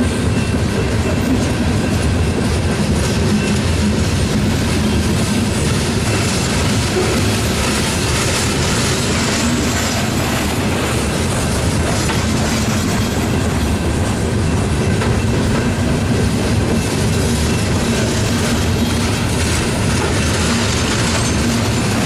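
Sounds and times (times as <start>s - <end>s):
train wheels rattling on rails: 0.0s - 22.0s.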